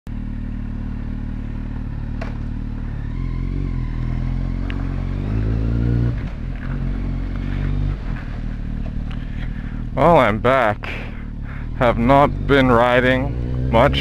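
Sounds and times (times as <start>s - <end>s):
motorcycle engine revving: 0.1s - 14.0s.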